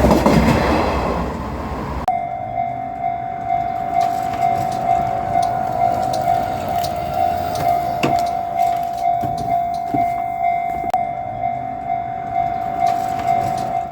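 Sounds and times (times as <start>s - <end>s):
diesel railcar rumble: 0.0s - 13.9s
level crossing warning bell: 2.1s - 13.9s.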